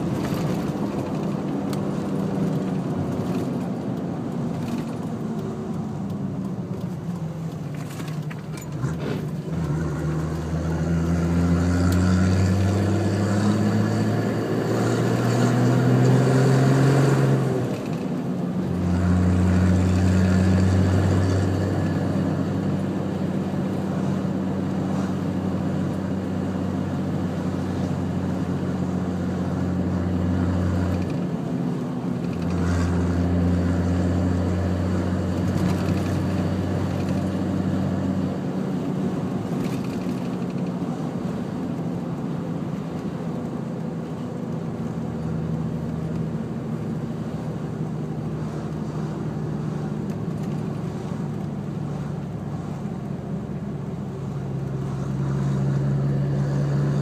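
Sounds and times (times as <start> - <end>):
diesel engine droning while driving: 0.0 - 57.0.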